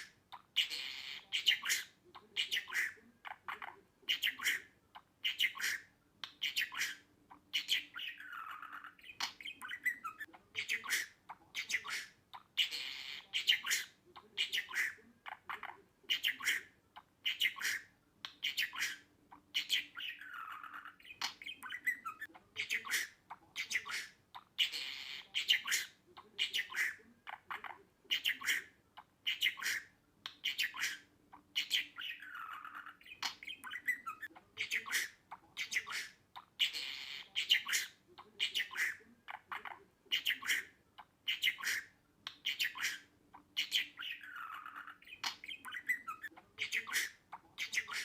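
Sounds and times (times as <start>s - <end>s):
budgerigar chattering: 0.0s - 48.0s.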